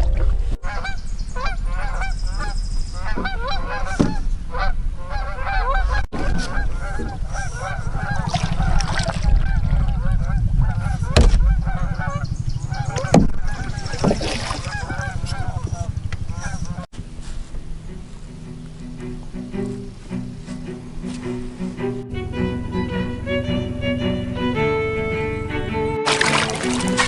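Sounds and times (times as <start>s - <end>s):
low steady hum: 0.0s - 27.0s
geese honking: 0.6s - 8.2s, 9.4s - 16.9s, 17.9s - 27.0s.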